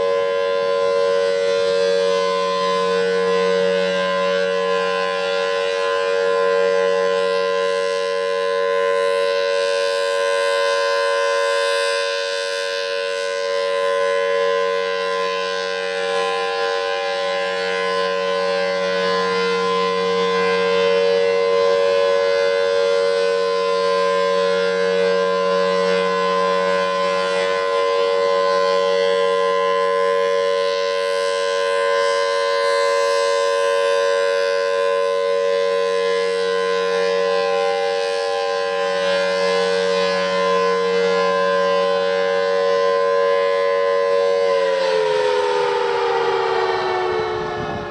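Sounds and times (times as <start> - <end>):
rotating siren alert tone: 0.0 - 47.9.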